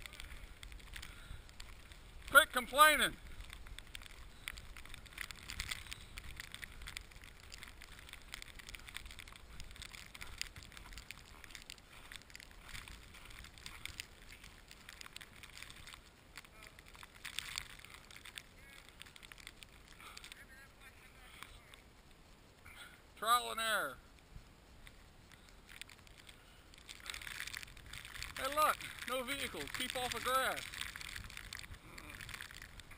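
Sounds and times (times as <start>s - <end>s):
footsteps crunching through snow: 0.0s - 20.0s, 23.8s - 32.9s.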